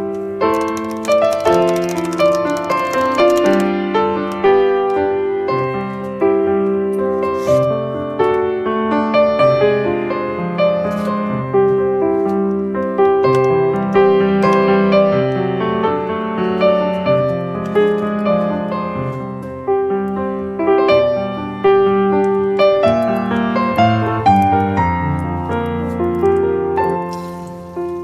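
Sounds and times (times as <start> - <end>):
slow piano melody: 0.0 - 28.0.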